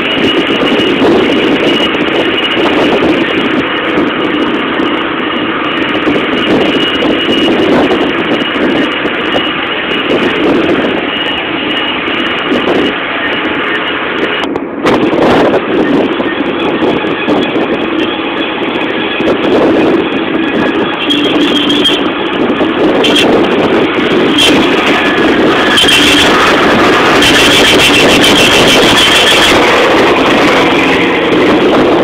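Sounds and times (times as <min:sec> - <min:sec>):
vehicle engine and road noise: 0:00.0 - 0:32.0.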